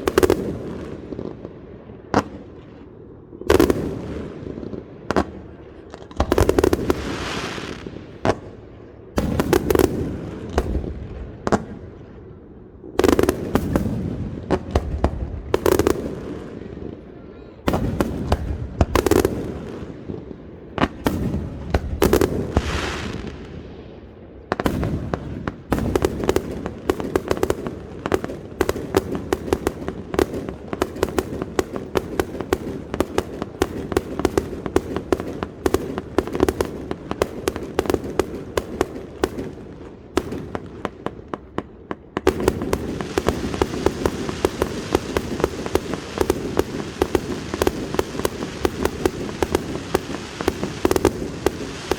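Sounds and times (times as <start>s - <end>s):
rapid firework pops and bangs: 0.0s - 2.8s, 3.5s - 8.6s, 9.2s - 11.9s, 13.0s - 16.9s, 17.6s - 23.8s, 24.5s - 51.9s.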